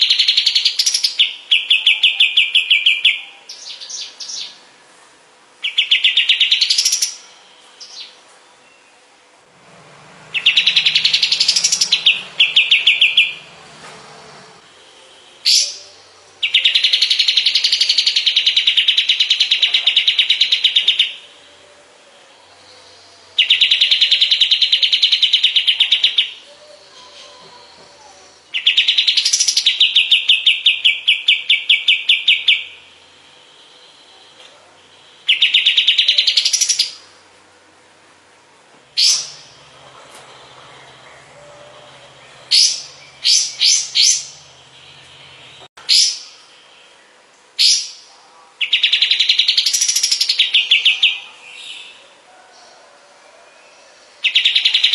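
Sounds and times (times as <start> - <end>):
bird singing trilled phrases: 0.0 - 4.6, 5.6 - 9.1, 10.3 - 13.7, 14.8 - 21.5, 22.3 - 37.1, 38.9 - 52.0, 54.0 - 54.9.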